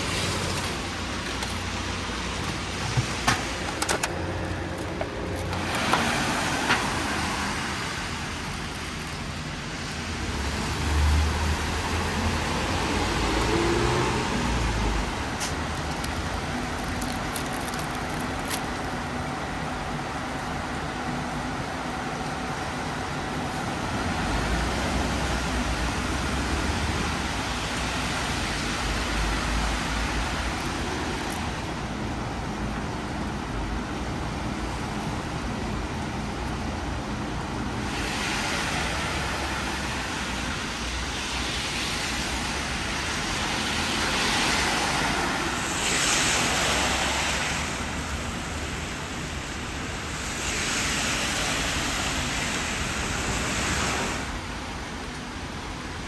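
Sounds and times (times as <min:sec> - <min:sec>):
car tyres hissing on wet road: 0:00.0 - 0:03.7, 0:04.6 - 0:20.9, 0:21.5 - 0:35.8, 0:37.2 - 0:56.0
steady rain: 0:00.0 - 0:56.0.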